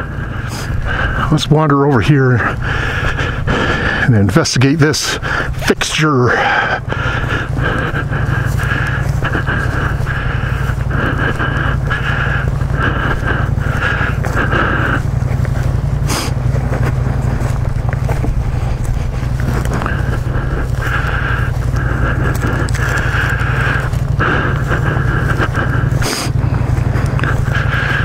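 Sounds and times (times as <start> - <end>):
footsteps crunching on dirt road: 0.0 - 28.0
high pulsing buzz: 0.0 - 28.0
wind buffeting microphone: 0.0 - 28.0.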